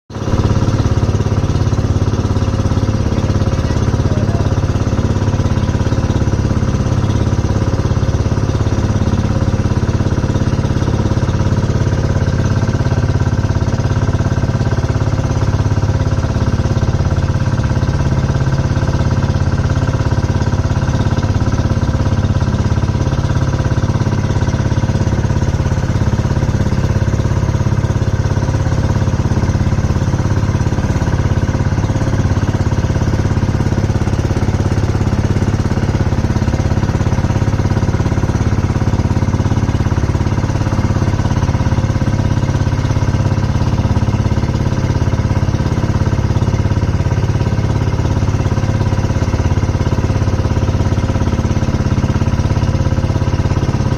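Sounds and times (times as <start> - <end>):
boat engine droning: 0.1 - 53.9.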